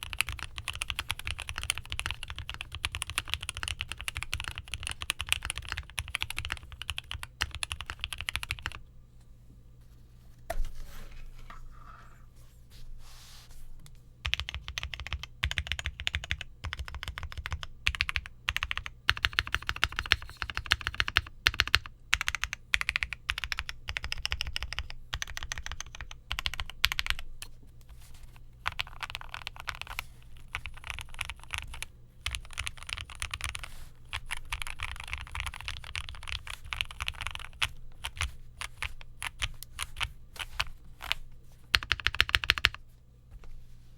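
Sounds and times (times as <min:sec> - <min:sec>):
typing on mechanical keyboard: 0:00.0 - 0:08.8, 0:14.2 - 0:27.5, 0:28.6 - 0:42.8.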